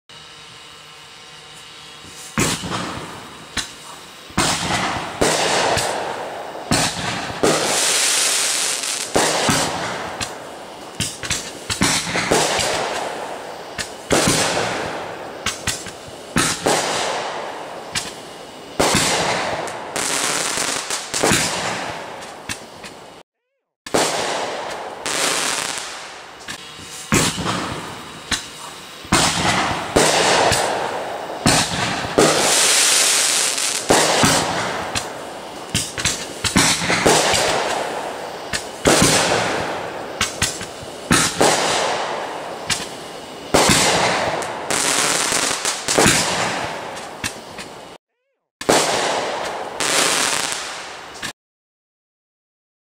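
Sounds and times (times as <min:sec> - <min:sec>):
fireworks banging and crackling: 0:01.6 - 0:23.2, 0:23.9 - 0:48.0, 0:48.6 - 0:51.4.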